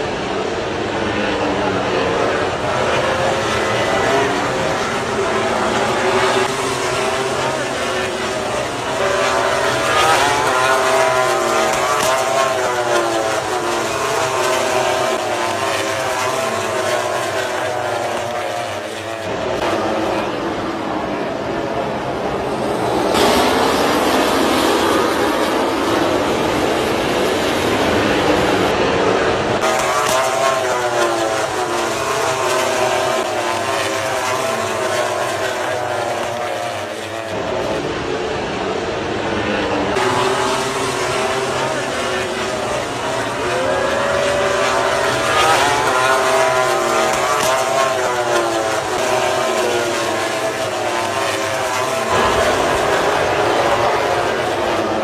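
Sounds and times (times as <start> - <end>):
racing motorcycles revving: 0.0 - 55.0.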